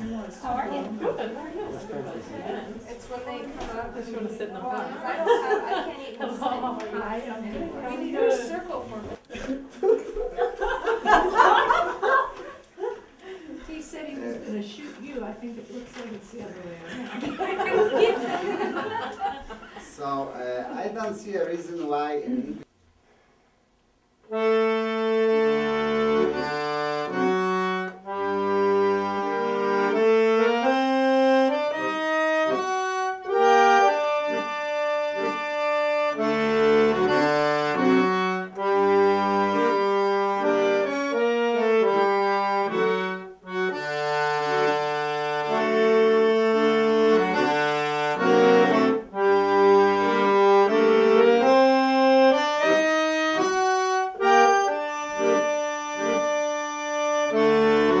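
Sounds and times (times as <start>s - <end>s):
accordion playing: 0.0s - 21.2s, 24.2s - 58.0s.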